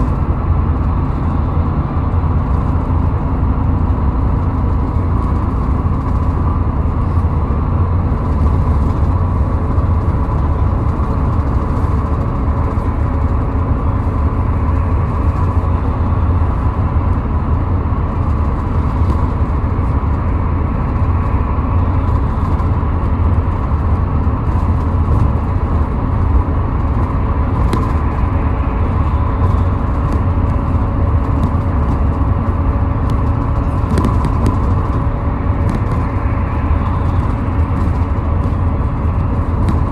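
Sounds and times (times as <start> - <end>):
faint constant whine: 0.0 - 39.9
road and engine rumble: 0.0 - 39.9.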